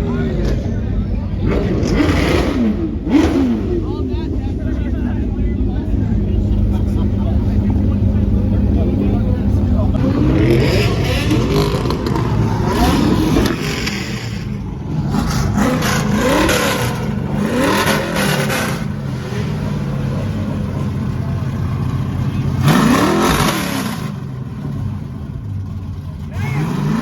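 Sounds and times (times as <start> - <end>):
car engines revving: 0.0 - 27.0
engine idling: 2.6 - 27.0.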